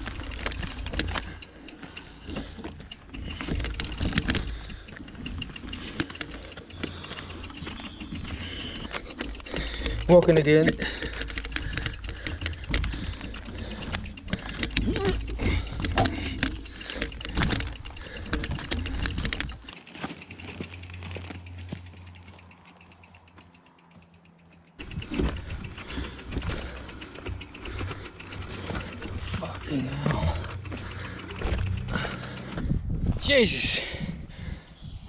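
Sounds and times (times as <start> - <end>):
freewheel ratchet clicking: 0.0 - 32.7
bike rattling: 0.0 - 34.0.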